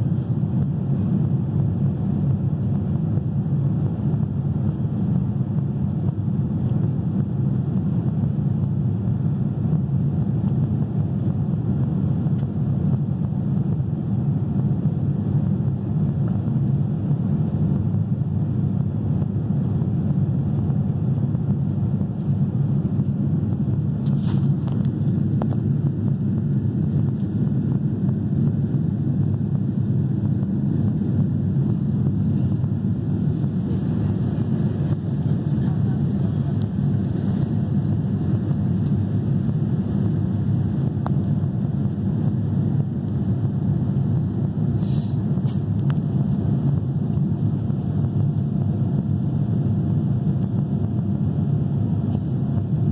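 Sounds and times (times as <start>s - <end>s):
aircraft cabin engine rumble: 0.0s - 52.9s.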